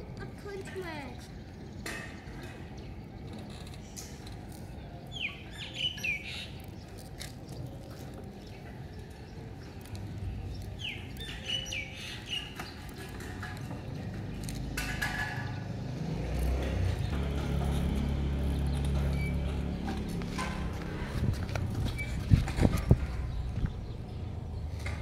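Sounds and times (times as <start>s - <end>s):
birds chirping: 0.1s - 25.0s.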